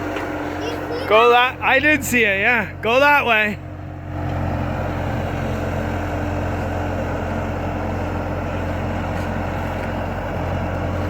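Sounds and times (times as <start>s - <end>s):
loader engine droning: 0.0s - 11.0s.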